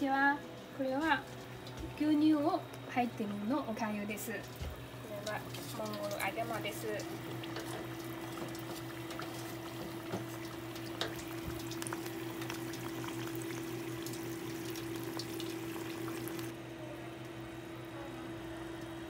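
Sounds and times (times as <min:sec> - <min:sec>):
pastries sizzling in deep fryer: 0:00.9 - 0:19.0.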